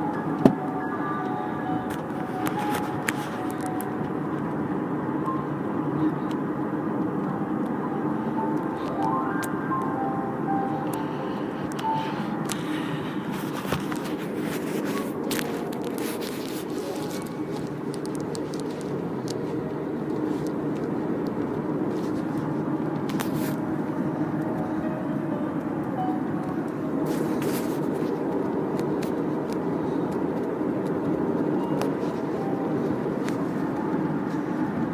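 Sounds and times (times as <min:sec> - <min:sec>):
car cabin road and engine noise: 0:00.0 - 0:34.9.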